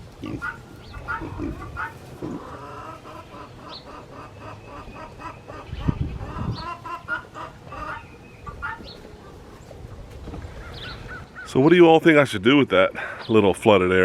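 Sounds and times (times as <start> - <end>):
chickens clucking: 0.0 - 11.8.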